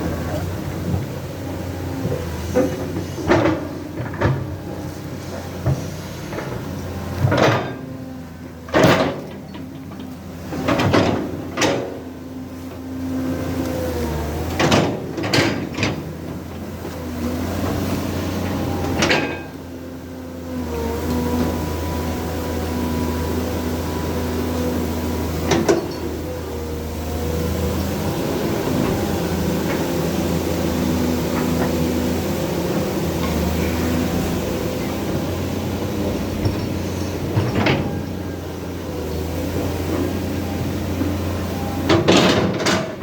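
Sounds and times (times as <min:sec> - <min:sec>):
truck engine hum: 0:00.0 - 0:43.0.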